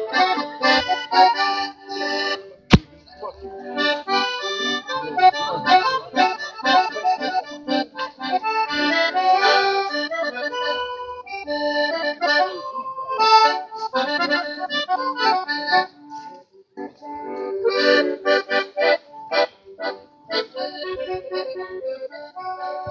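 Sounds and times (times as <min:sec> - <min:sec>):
accordion playing lively tune: 0:00.0 - 0:22.9.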